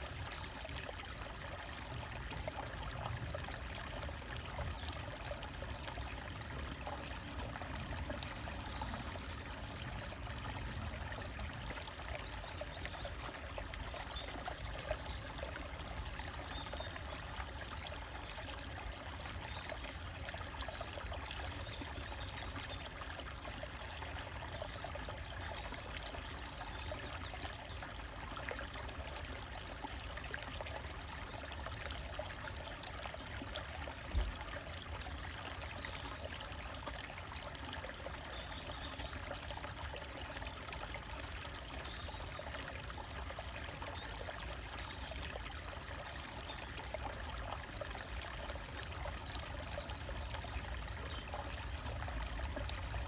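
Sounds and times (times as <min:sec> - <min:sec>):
stream trickling over rocks: 0:00.0 - 0:53.0.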